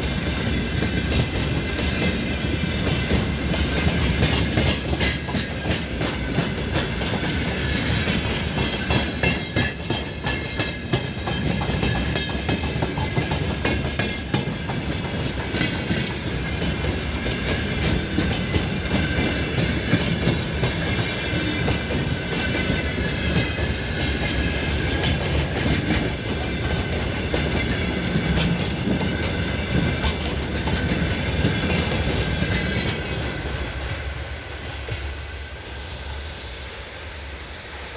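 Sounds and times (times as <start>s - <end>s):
train wheels clacking over rail joints: 0.0s - 34.0s.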